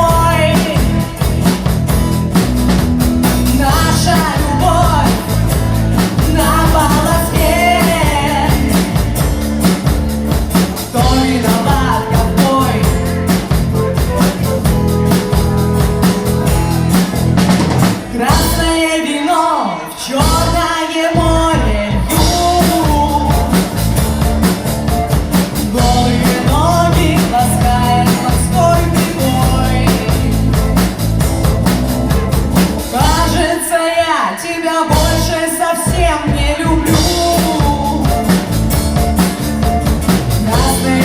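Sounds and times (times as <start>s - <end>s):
person singing: 0.0s - 1.7s, 3.2s - 9.8s, 10.8s - 30.9s, 32.8s - 38.6s, 39.3s - 41.0s
drum kit beat: 0.0s - 19.1s, 20.1s - 33.7s, 34.9s - 41.0s
rock band playing live: 0.0s - 41.0s.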